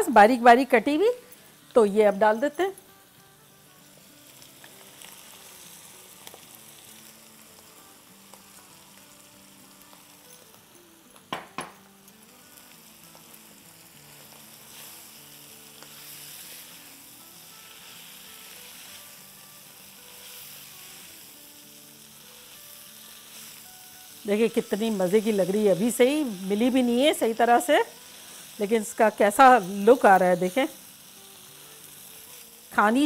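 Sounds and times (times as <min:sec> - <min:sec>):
cabbage sizzling in a wok: 0:00.0 - 0:33.0.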